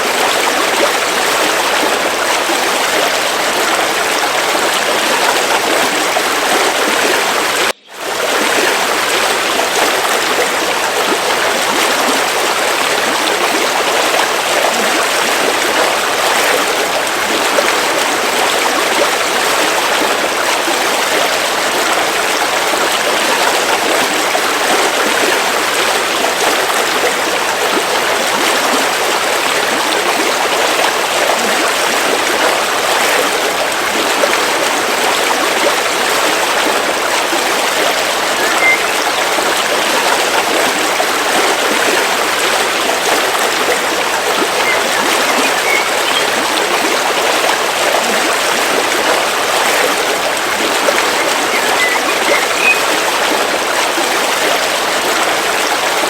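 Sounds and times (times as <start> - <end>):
river water flowing over stones: 0.0 - 56.0.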